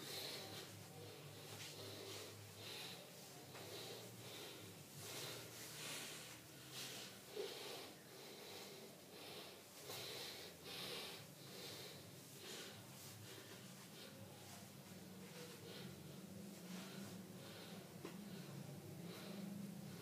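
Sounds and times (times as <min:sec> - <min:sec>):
faint breathing: 0:00.0 - 0:20.0
low steady hum: 0:00.0 - 0:20.0.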